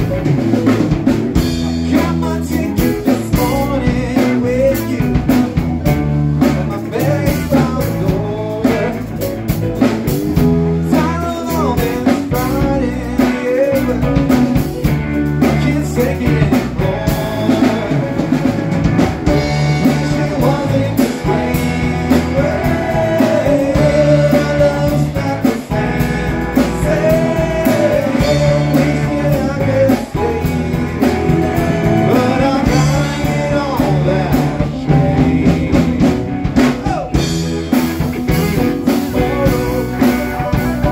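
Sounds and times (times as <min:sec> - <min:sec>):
blues-rock band playing: 0:00.0 - 0:40.9.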